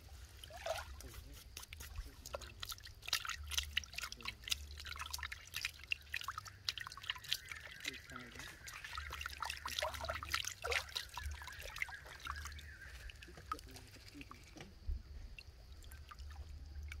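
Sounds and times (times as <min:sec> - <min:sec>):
hand scooping water: 0:00.0 - 0:17.0
small water drips: 0:00.0 - 0:17.0
stream water splashing and trickling: 0:00.0 - 0:17.0.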